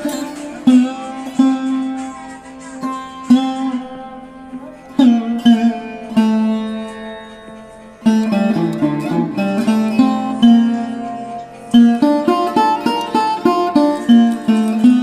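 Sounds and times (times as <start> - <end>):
plucked string notes: 0.0 - 15.0.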